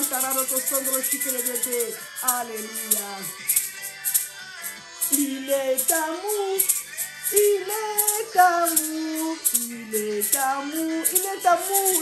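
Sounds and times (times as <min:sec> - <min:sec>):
high voice singing worship song: 0:00.0 - 0:12.0
rattling percussion beat: 0:00.0 - 0:12.0.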